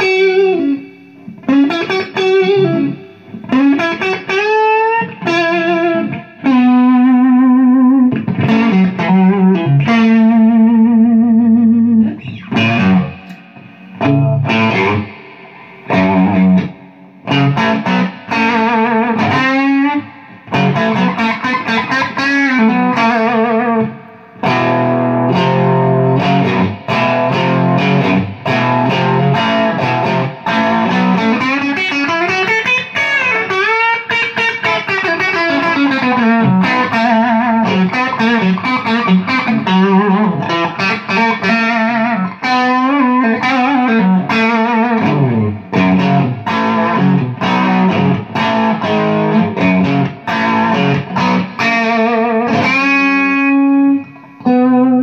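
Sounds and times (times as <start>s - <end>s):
electric guitar solo: 0.0s - 55.0s.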